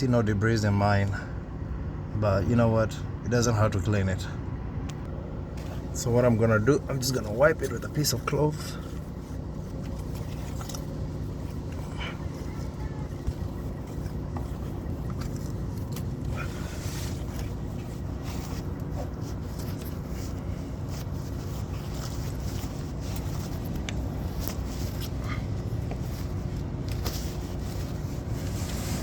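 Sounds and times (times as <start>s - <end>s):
low engine drone: 0.0s - 29.0s
cloth rubbing and scraping: 5.5s - 29.0s.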